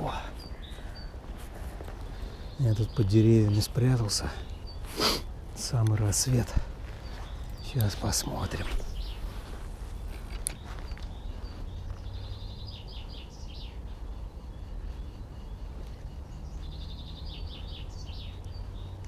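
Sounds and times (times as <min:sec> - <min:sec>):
songbirds chirping and trilling: 0:00.0 - 0:19.0
steady low rumble: 0:00.0 - 0:19.0.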